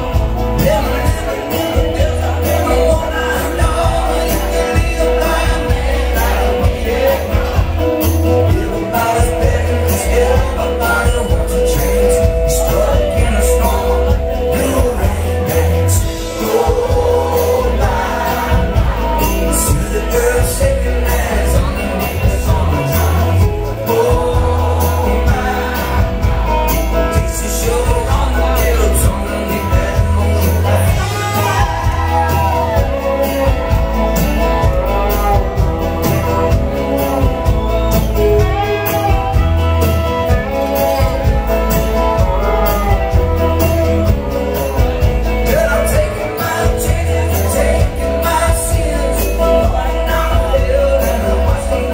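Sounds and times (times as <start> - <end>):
acoustic and electric guitars: 0.0 - 51.9
drums keeping steady beat: 0.0 - 51.9
lead and backing vocals: 0.0 - 51.9.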